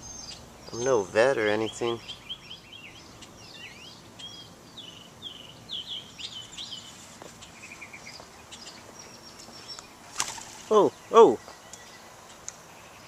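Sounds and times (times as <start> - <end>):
birds chirping: 0.0 - 13.0
faint steady hiss: 0.0 - 13.0.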